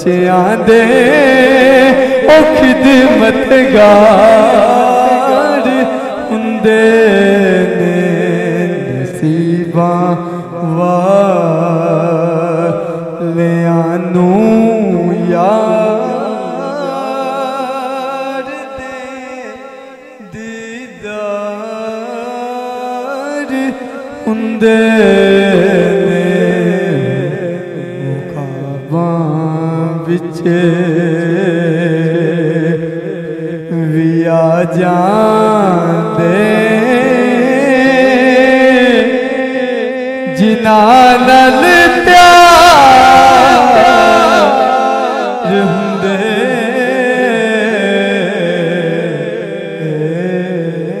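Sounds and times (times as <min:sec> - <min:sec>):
man singing long ornamented notes: 0:00.0 - 0:51.0.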